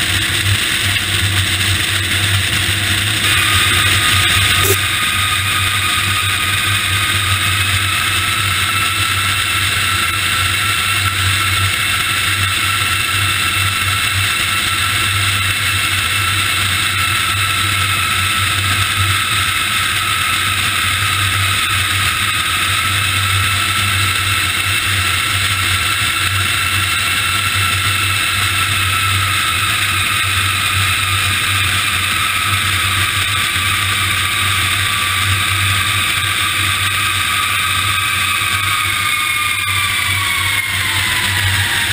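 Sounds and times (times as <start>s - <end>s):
high jet whine: 0.0s - 41.9s
jet airflow and engine noise: 0.0s - 41.9s.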